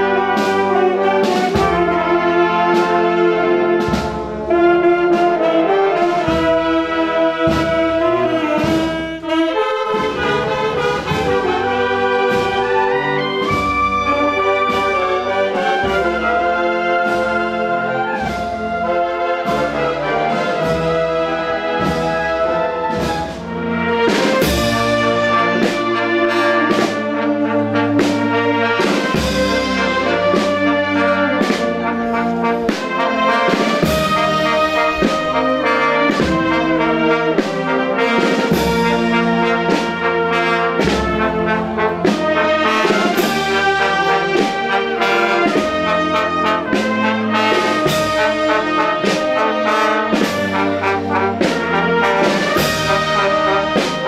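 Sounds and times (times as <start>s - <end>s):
brass band playing slow march: 0.0s - 54.0s
steady drum beat: 0.0s - 54.0s.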